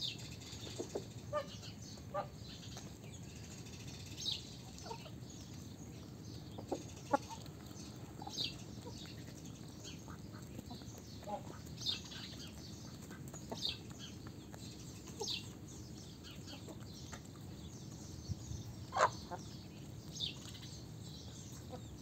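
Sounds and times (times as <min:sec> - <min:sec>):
low background noise: 0:00.0 - 0:22.0
chickens clucking: 0:00.1 - 0:03.9, 0:04.5 - 0:22.0.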